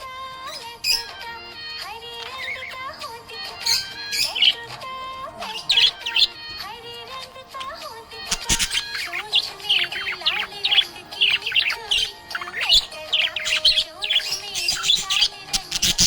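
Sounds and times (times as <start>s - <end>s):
budgerigar chirping and warbling: 0.0s - 1.3s, 2.1s - 4.7s, 5.3s - 16.0s.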